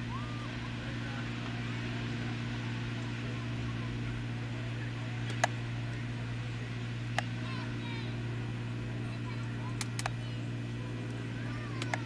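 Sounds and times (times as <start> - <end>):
faint distant voices: 0.0 - 12.0
low machinery hum: 0.0 - 12.0.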